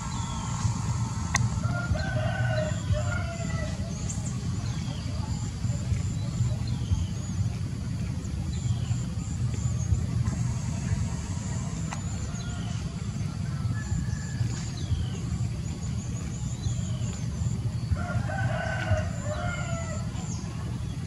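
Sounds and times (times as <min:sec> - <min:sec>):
drawn-out animal call: 0:00.0 - 0:06.5, 0:08.8 - 0:21.0
low rumble: 0:00.0 - 0:21.0.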